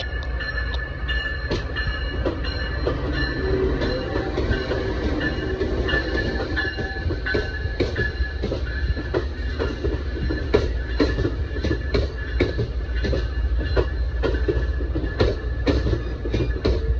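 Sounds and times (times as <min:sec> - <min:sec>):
high ringing from wheel and rail: 0:00.0 - 0:16.9
train rumbling on rails: 0:00.0 - 0:16.9.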